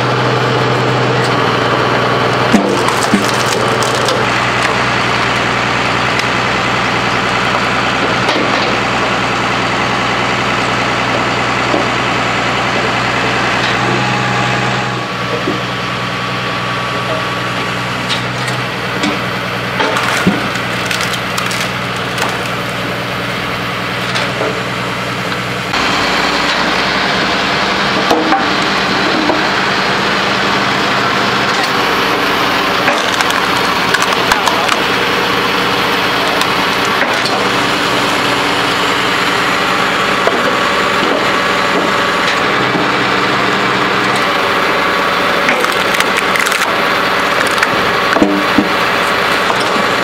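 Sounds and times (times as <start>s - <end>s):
tractor diesel engine running: 0.0s - 50.0s
logs cracking and splitting: 1.1s - 14.4s, 17.0s - 50.0s.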